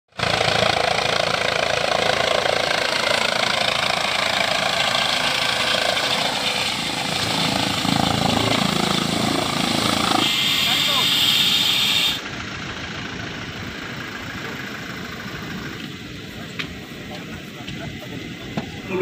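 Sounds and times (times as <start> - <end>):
helicopter rotor and engine: 0.1 - 19.0.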